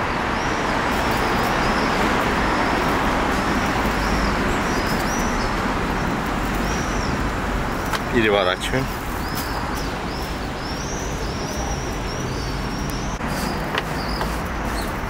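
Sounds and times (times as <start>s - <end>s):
bird chirping: 0.0s - 15.0s
road traffic noise: 0.0s - 15.0s.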